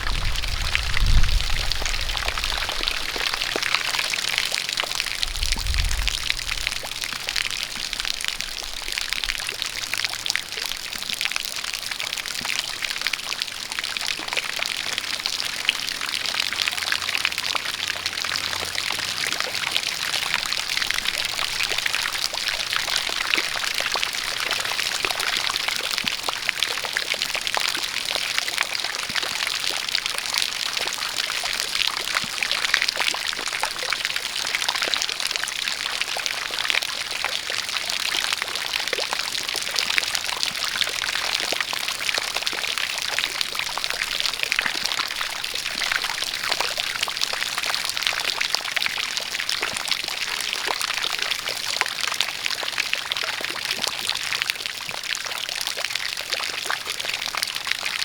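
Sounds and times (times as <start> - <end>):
water jet pouring and splashing: 0.0 - 52.1
rain falling: 0.0 - 58.0.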